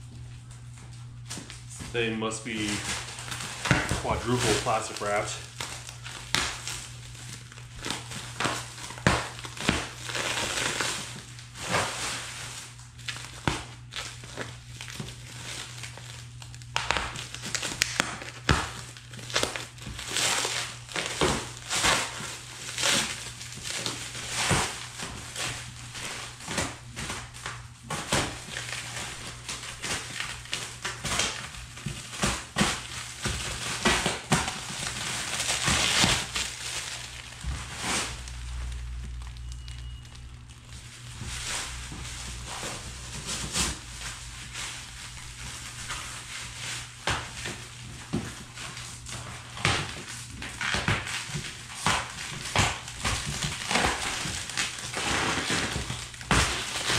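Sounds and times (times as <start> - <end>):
plastic wrap crinkling: 0.0 - 56.9.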